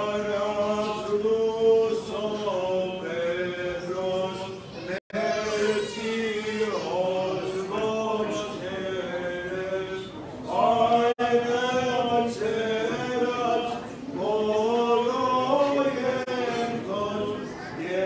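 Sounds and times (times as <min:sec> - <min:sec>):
unaccompanied liturgical chant: 0:00.0 - 0:18.0.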